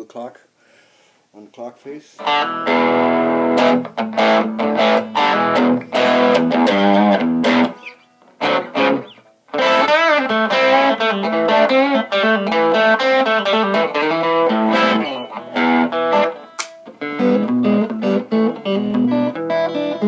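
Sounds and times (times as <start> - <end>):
distorted electric guitar lead: 2.2 - 20.0.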